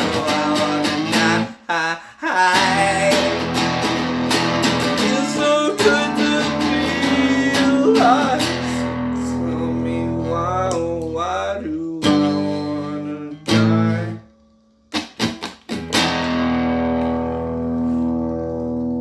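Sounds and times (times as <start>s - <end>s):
electric guitar strumming chords: 0.0s - 1.5s, 2.5s - 19.0s.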